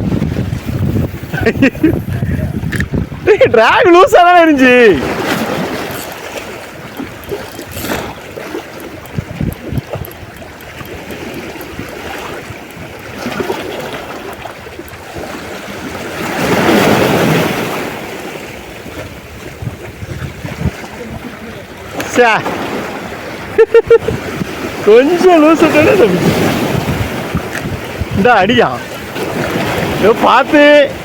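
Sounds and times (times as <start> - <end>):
wind on microphone: 0.0 - 4.2, 4.9 - 31.0
sea water lapping: 0.0 - 31.0.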